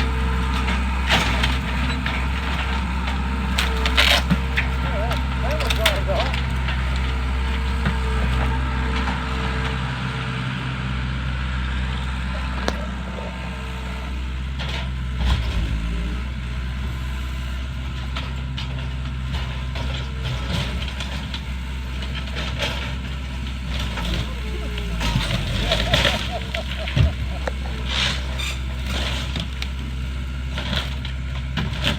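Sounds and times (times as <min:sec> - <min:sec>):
heavy machine engine running: 0:00.0 - 0:31.9.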